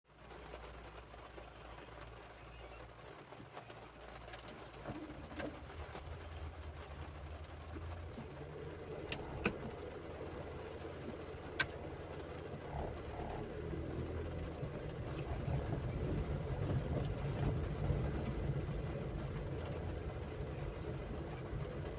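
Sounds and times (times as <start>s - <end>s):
vehicle engine rumble: 0.1s - 21.9s.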